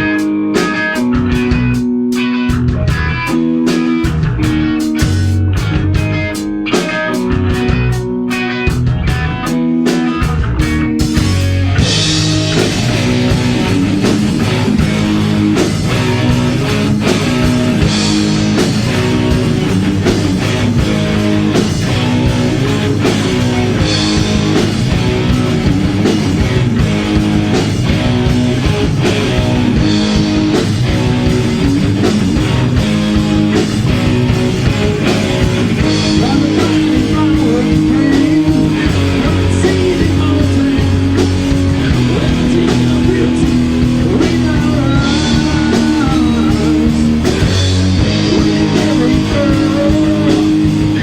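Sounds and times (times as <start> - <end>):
electric guitar riff: 0.0 - 51.0
heavy metal band playing: 0.0 - 51.0.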